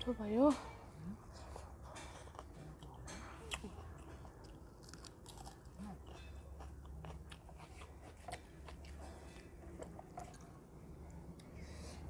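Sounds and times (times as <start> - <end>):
person chewing food: 1.1 - 12.0.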